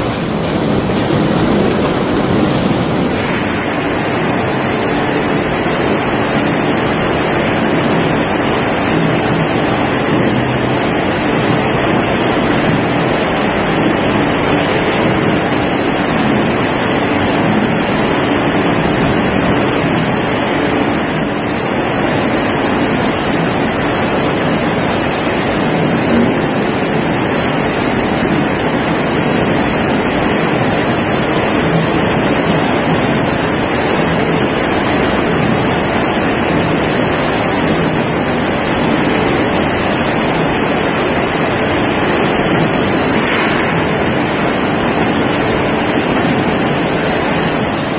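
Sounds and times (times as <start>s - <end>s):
machinery rushing noise: 0.0s - 47.9s.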